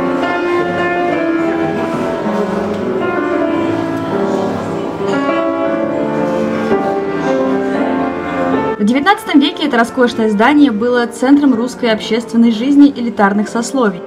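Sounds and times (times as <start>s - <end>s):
slow upright piano piece: 0.0s - 14.0s.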